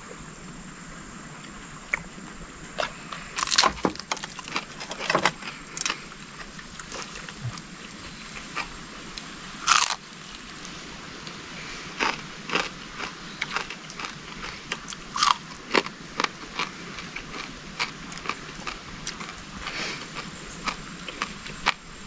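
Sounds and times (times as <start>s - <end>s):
crunchy chewing of fried fish: 2.7s - 22.0s.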